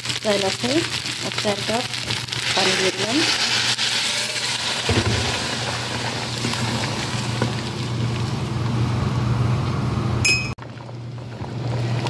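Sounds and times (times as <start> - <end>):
gas stove humming and hissing: 0.0 - 12.0.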